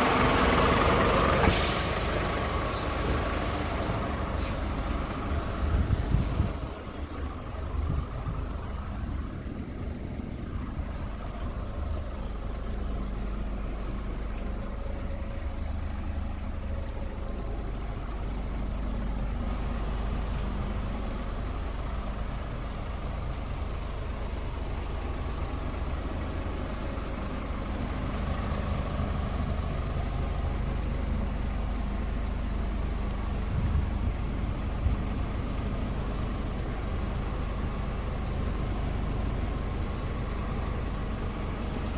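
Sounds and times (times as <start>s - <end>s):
truck diesel engine running: 0.0s - 41.9s.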